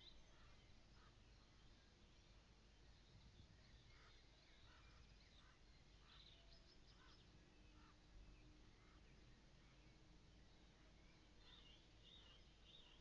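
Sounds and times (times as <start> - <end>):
faint bird calls: 0.0 - 1.9, 3.3 - 13.0
low steady hum: 0.0 - 13.0.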